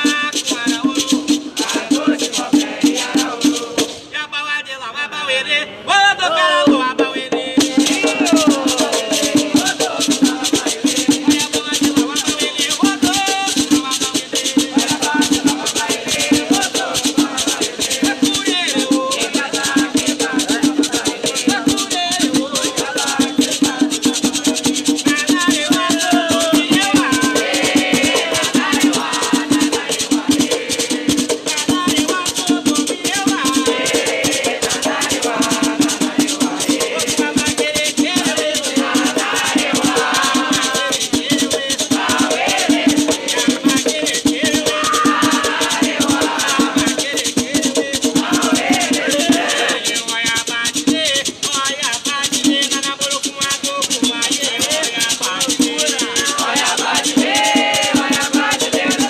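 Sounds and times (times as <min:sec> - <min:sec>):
hand drums playing fast: 0:00.0 - 0:04.1, 0:06.6 - 0:59.0
men singing a chant: 0:00.0 - 0:59.0.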